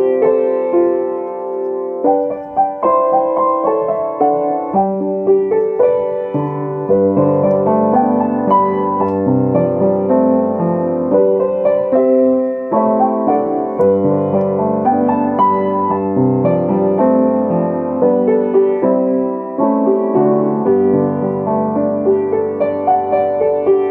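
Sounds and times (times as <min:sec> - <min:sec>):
solo piano piece: 0:00.0 - 0:23.9.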